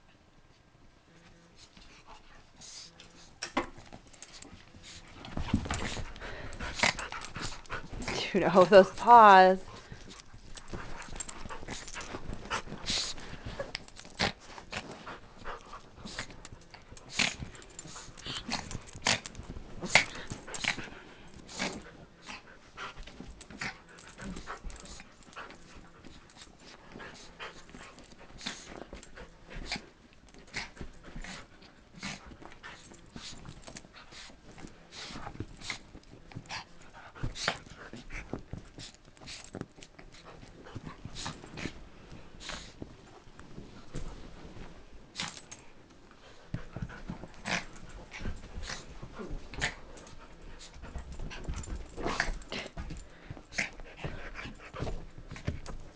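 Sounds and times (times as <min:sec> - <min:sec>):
dog panting: 0:01.3 - 0:43.2, 0:45.2 - 0:55.9
dogs scuffling: 0:01.7 - 0:55.9.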